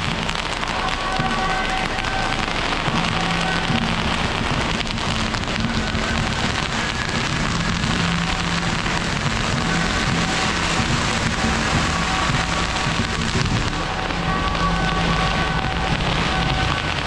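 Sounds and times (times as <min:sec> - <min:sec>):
firecrackers crackling: 0:00.0 - 0:17.0
procession music with horns: 0:00.0 - 0:17.0.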